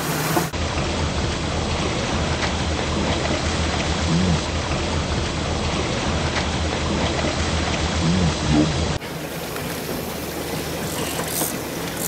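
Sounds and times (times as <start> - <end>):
boat engine drone: 0.0 - 12.0
rushing water noise: 0.0 - 12.0.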